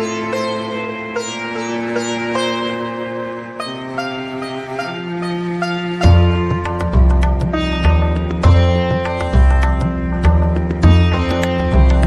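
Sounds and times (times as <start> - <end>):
plucked string notes: 0.0 - 12.0.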